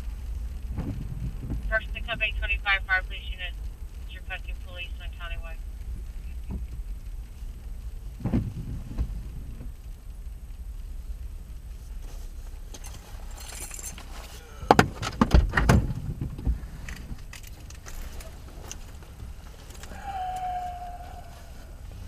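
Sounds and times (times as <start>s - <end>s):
sharp clicks and metallic rattles: 0.0s - 20.5s
vehicle cabin rumble: 0.0s - 22.0s.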